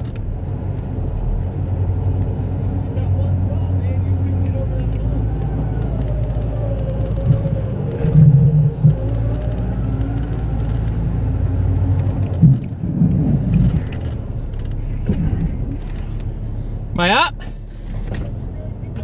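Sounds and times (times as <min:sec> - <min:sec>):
engine running low: 0:00.0 - 0:19.0.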